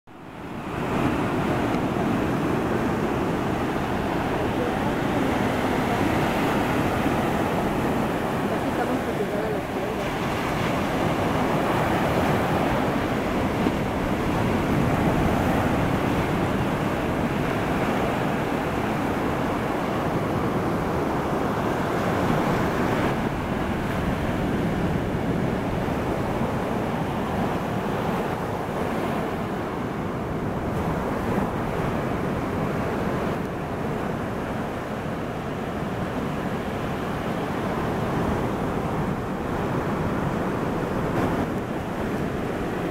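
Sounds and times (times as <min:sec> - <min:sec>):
ocean surf breaking: 0:00.1 - 0:42.9.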